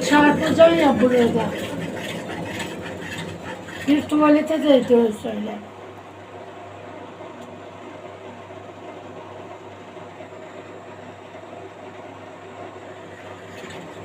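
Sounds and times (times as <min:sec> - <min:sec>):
washing machine running: 0:00.0 - 0:14.0.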